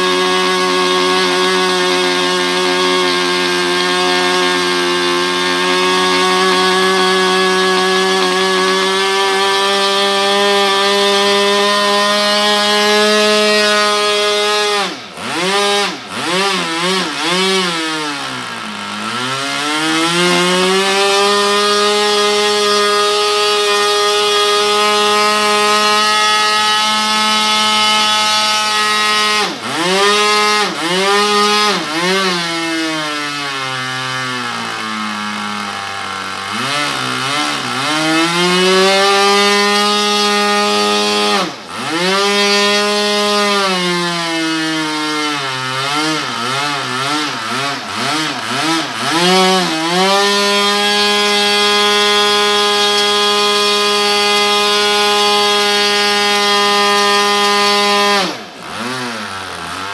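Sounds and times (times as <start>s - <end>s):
model engine revving: 0.0s - 59.9s.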